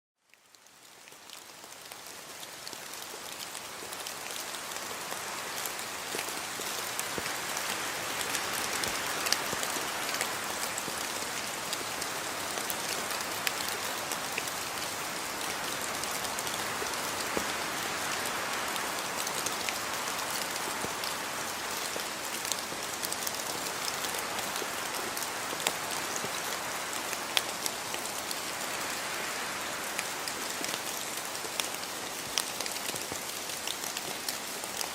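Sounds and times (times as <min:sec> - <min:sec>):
rain pattering on surfaces: 0:00.2 - 0:34.9.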